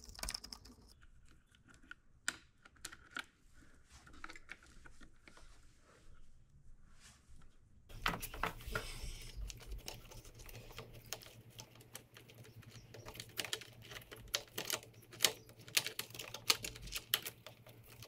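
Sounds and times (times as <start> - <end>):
plastic clicks and rattles of cables: 0.0 - 3.4, 4.0 - 5.4, 7.9 - 18.0.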